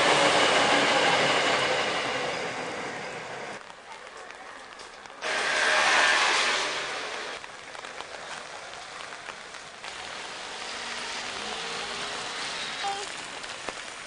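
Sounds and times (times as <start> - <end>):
rain on a wet street: 2.6 - 14.0.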